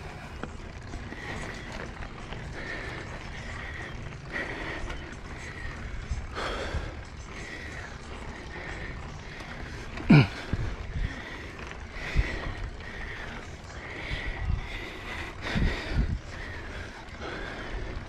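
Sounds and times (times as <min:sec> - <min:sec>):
bike rolling noise: 0:00.0 - 0:18.0
person breathing hard: 0:00.0 - 0:18.0.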